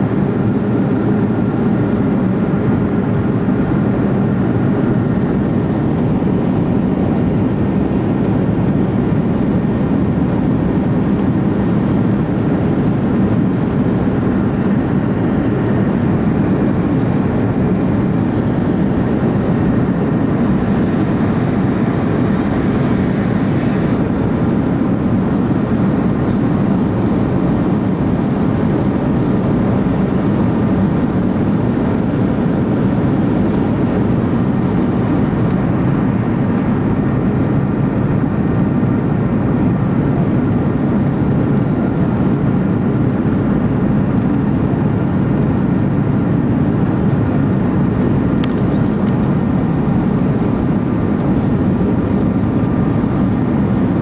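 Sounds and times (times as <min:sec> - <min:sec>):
jet cabin engine roar: 0:00.0 - 0:54.0.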